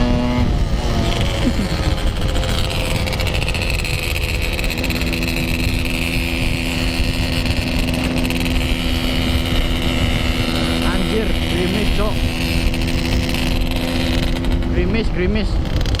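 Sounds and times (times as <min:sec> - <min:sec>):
two-stroke motorcycle engine: 0:00.0 - 0:16.0
wind noise on microphone: 0:00.0 - 0:16.0.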